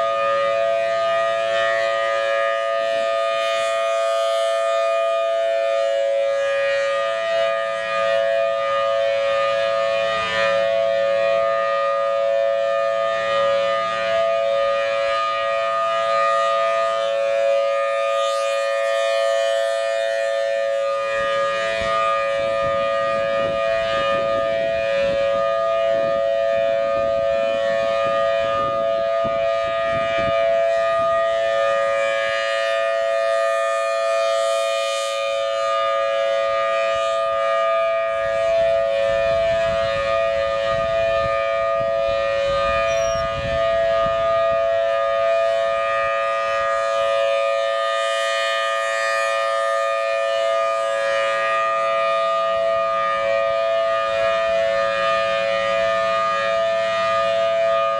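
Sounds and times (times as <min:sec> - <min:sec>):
tornado siren wailing: 0:00.0 - 0:57.9.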